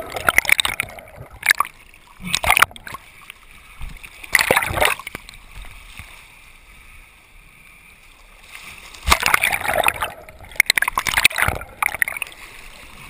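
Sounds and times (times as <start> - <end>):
sea water splashing: 0.0 - 7.3, 8.0 - 13.0.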